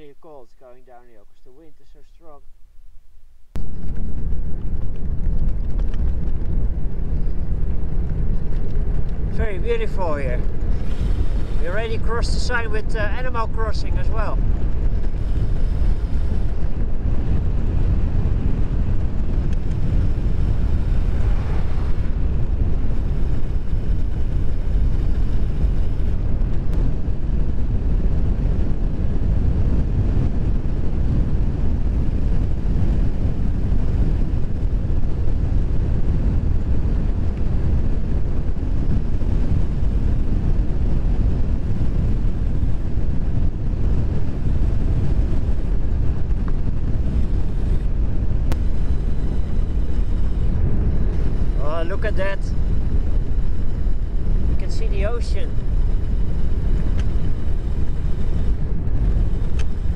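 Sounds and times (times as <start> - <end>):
strong wind buffeting microphone: 0.0 - 59.9.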